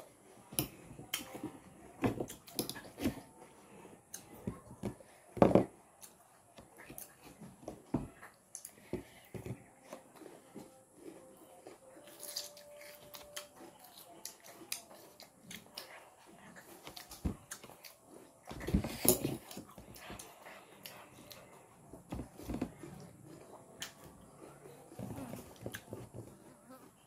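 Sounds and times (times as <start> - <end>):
people chewing: 0.0 - 27.0.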